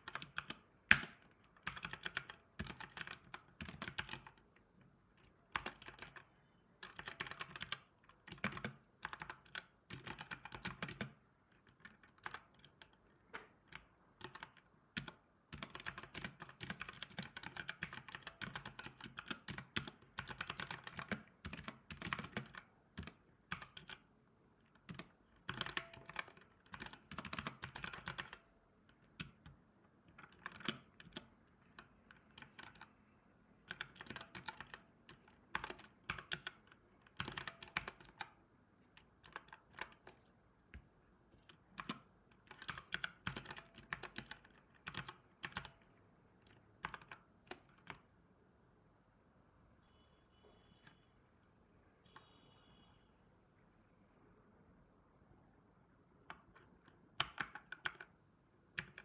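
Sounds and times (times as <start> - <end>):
keyboard typing clicks: 0.0 - 24.1, 24.7 - 48.1, 56.1 - 59.0.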